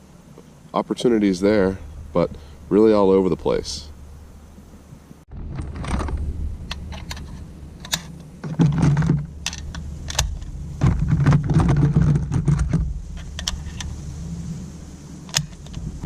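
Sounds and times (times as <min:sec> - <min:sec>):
low rumble: 0:00.9 - 0:16.0.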